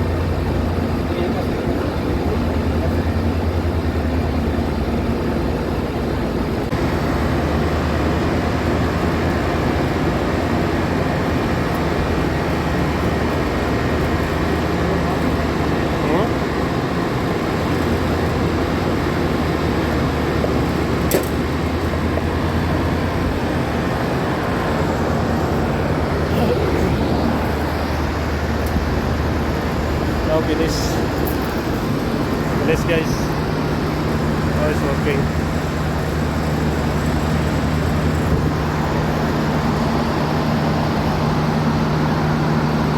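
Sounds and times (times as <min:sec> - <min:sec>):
air conditioning unit humming: 0:00.0 - 0:42.9.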